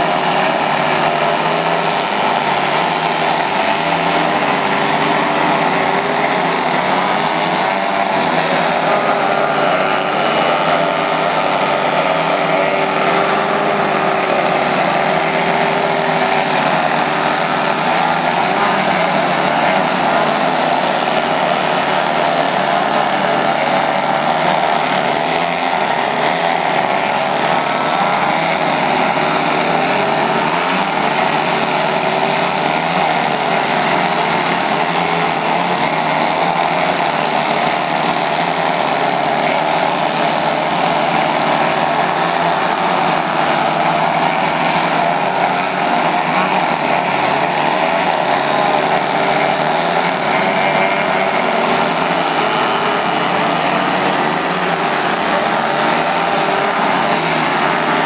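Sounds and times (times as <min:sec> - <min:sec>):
model airplane engines droning: 0:00.0 - 0:58.0.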